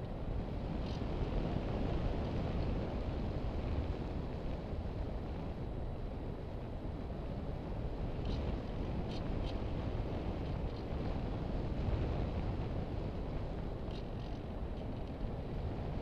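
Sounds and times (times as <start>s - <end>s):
wind rushing over camera: 0.0s - 16.0s.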